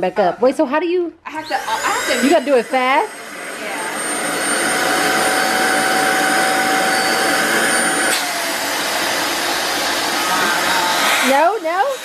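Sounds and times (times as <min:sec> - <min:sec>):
electric pump whirring: 0:01.3 - 0:12.0.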